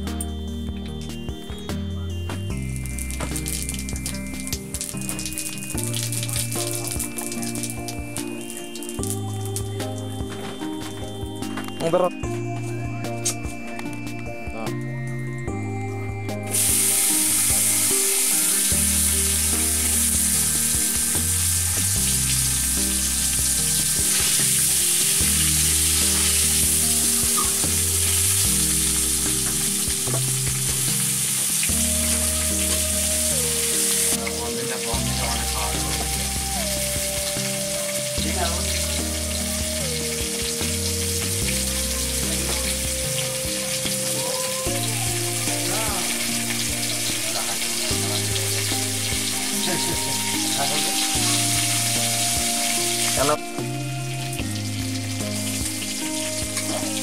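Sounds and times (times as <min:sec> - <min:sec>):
background music with bass line: 0:00.0 - 0:57.0
oil sizzling in a pan: 0:02.5 - 0:11.9, 0:16.5 - 0:57.0.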